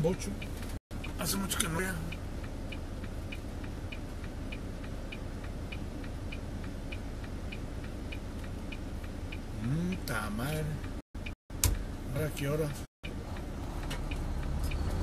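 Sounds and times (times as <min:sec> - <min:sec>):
turn signal clicking: 0:00.0 - 0:11.9, 0:13.0 - 0:15.0.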